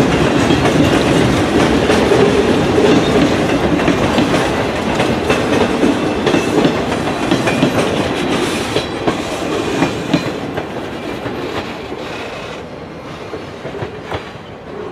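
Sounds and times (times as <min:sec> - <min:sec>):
train wheels clacking on rail joints: 0:00.0 - 0:14.9.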